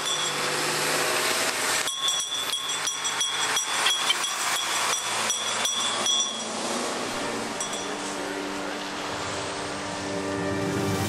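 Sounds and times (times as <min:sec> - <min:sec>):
truck clinking and rattling: 0:00.0 - 0:09.2
traffic on wet road: 0:00.0 - 0:11.0.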